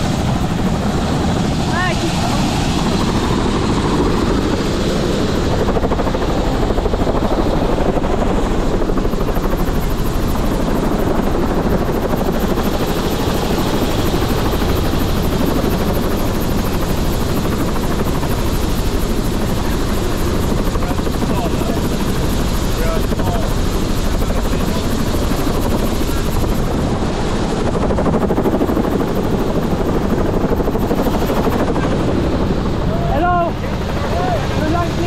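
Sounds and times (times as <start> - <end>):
helicopter turbine and rotor: 0.0 - 35.0.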